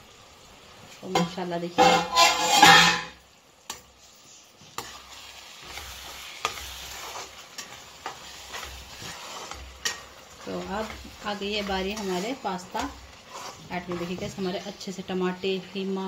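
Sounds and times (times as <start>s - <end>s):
food sizzling: 0.0s - 16.0s
metal spoon scraping a pan: 1.2s - 14.9s.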